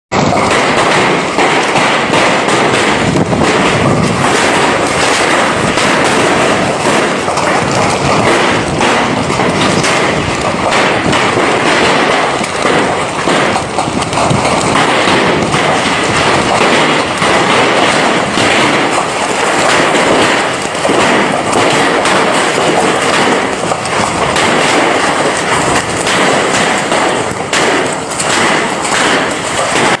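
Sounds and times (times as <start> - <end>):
hailstones clattering on hard surfaces: 0.1 - 30.0.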